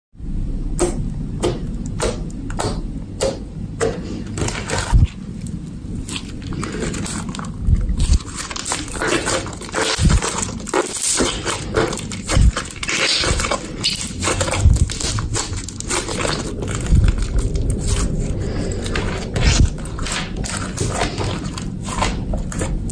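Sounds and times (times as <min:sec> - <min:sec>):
slime squishing by hand: 0:00.7 - 0:22.9.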